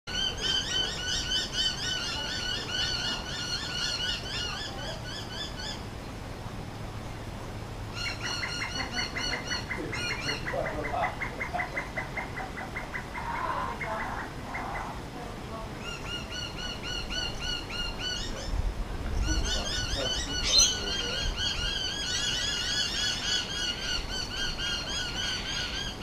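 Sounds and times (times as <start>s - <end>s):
birds giving alarm calls: 0.1s - 26.0s.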